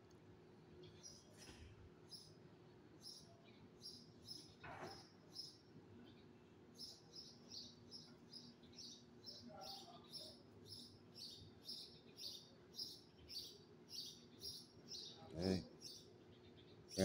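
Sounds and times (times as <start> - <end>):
bird chirping: 0.8 - 17.0.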